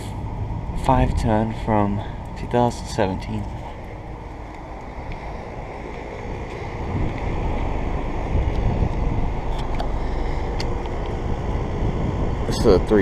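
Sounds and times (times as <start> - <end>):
air conditioner units humming: 0.0 - 13.0
wind buffeting microphone: 0.0 - 13.0.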